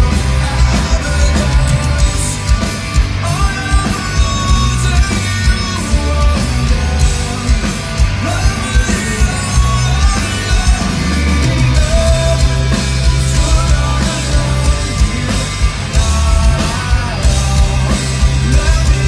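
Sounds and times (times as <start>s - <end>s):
distorted electric guitars: 0.0s - 19.0s
heavy bass: 0.0s - 19.0s
person singing: 0.0s - 19.0s
steady drum beat: 0.0s - 19.0s.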